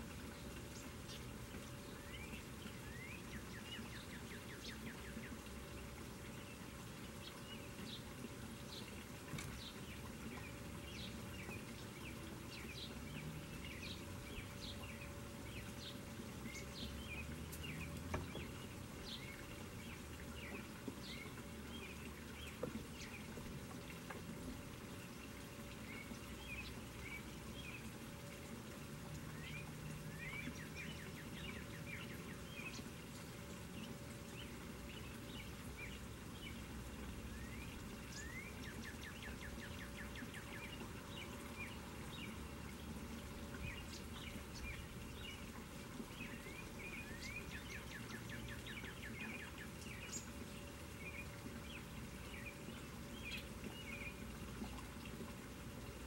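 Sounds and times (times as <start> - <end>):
water pouring into pond: 0.0 - 56.0
small birds chirping: 0.1 - 56.0.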